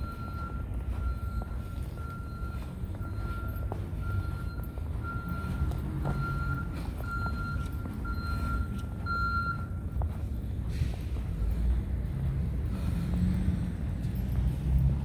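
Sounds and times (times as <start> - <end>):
vehicle reversing beeper: 0.0 - 15.0.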